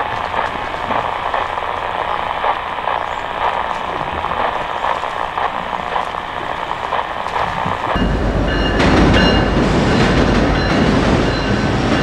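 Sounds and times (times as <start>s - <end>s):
faint crackle: 0.0s - 10.7s
train running on rails: 0.0s - 12.0s.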